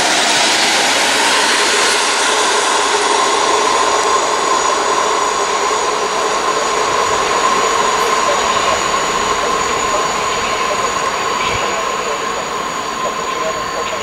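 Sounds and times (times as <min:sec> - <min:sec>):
constant whine: 0:00.0 - 0:14.0
train wheels rolling on rails: 0:00.0 - 0:14.0.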